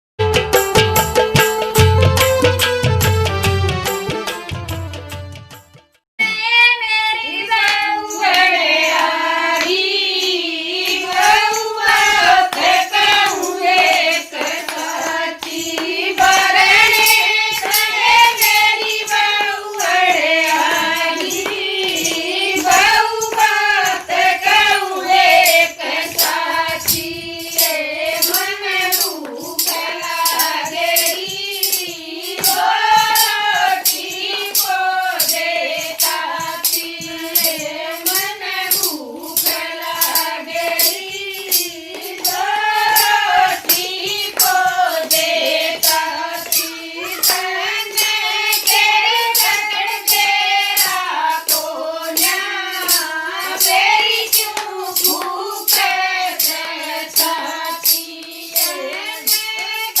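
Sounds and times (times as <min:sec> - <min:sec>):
percussion beat: 0:00.2 - 1:00.0
person singing devotional song: 0:06.2 - 1:00.0.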